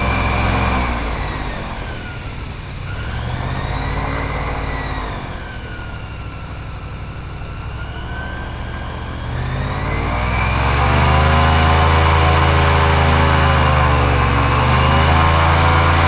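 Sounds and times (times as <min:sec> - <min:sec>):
airboat engine and propeller: 0:00.0 - 0:16.0.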